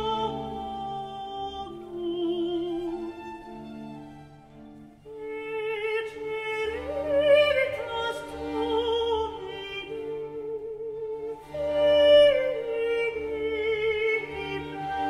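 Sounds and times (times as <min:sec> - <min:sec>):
operatic classical music: 0:00.0 - 0:15.0.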